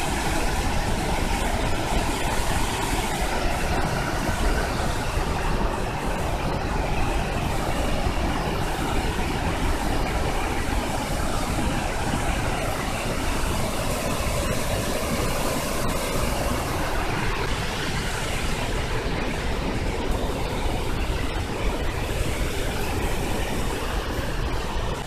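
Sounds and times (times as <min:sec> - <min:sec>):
deep rumble of water: 0:00.0 - 0:25.0
waterfall rushing: 0:00.0 - 0:25.0.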